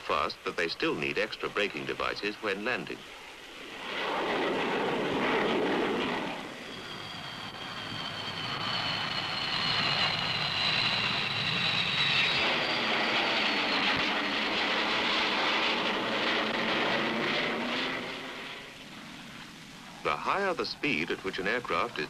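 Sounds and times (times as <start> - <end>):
jet engine turbine whine and roar: 0.0 - 22.0.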